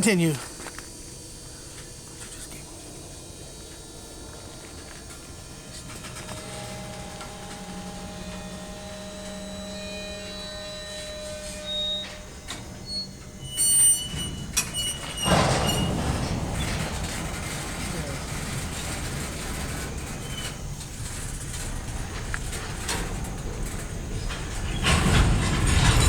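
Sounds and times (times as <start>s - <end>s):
diesel engine drone: 0.0s - 26.0s
train clanks: 0.0s - 26.0s
train rumbling: 0.0s - 26.0s
wheels squealing: 0.2s - 26.0s.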